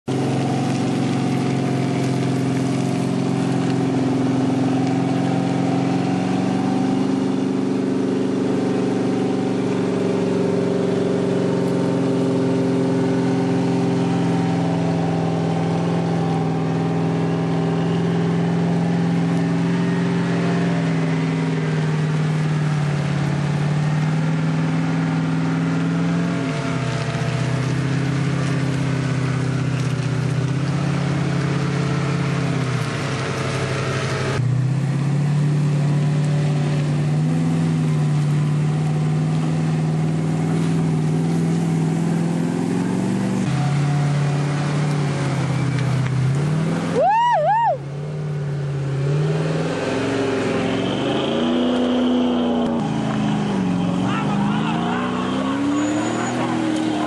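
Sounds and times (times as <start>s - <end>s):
engines running under load: 0.0s - 57.0s.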